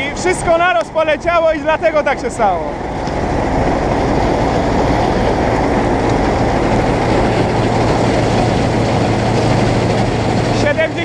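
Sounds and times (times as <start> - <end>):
combine harvester machinery din: 0.0 - 11.0
low engine hum: 0.0 - 11.0.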